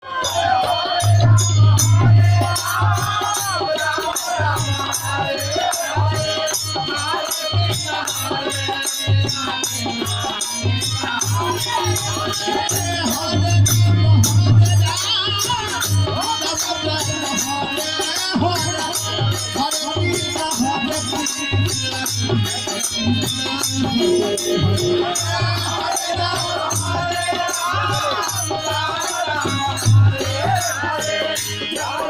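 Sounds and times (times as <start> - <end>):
high jingling percussion: 0.0 - 32.0.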